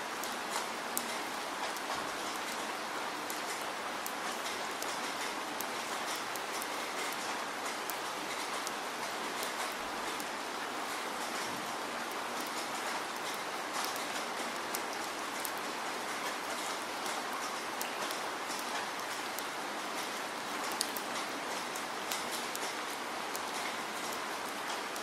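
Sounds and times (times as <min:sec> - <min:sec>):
rain drops ticking on wet surface: 0:00.0 - 0:25.0.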